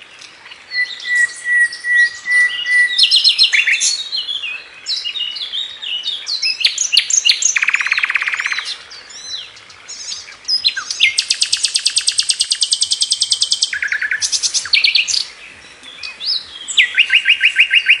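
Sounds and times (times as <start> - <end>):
nightingale singing: 0.0 - 18.0.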